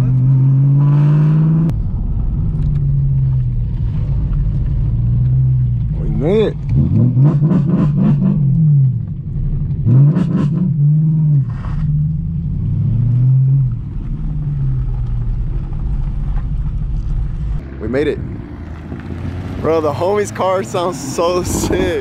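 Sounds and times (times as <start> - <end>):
car engine revving inside cabin: 0.0 - 22.0.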